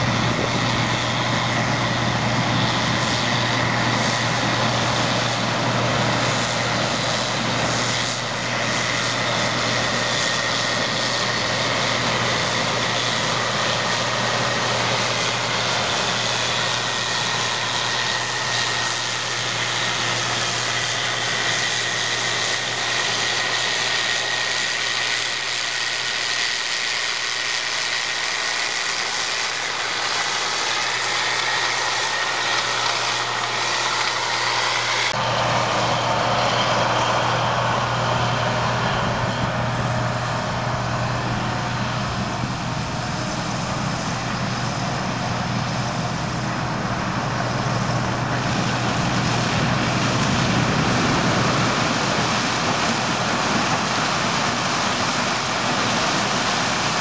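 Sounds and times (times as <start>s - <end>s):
combine harvester running: 0.0s - 57.0s
high machinery whine: 0.0s - 57.0s.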